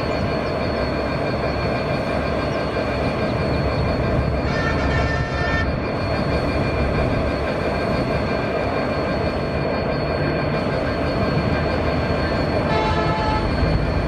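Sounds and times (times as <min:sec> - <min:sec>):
diesel locomotive and wheels rumbling: 0:00.0 - 0:14.0.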